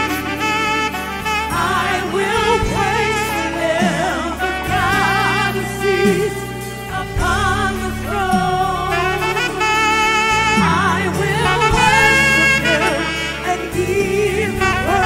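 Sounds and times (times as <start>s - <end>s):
alto saxophone held notes: 0.0s - 15.0s
backing singers: 0.0s - 15.0s
sustained bass notes: 0.0s - 15.0s.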